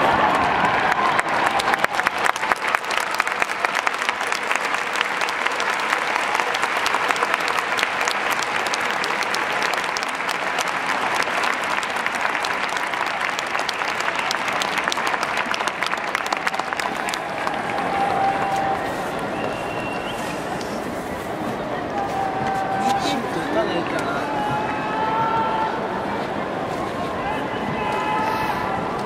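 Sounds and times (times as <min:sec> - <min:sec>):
stadium crowd applauding: 0:00.0 - 0:29.0.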